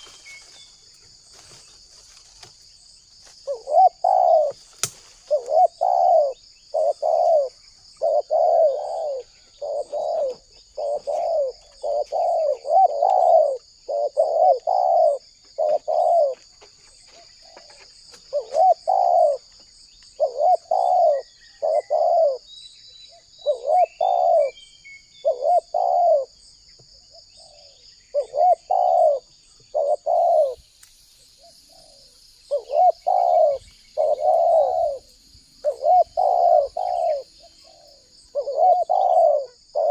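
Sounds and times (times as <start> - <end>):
doves cooing: 3.4 - 19.6, 20.2 - 22.5, 23.1 - 24.6, 25.2 - 30.6, 31.4 - 39.9.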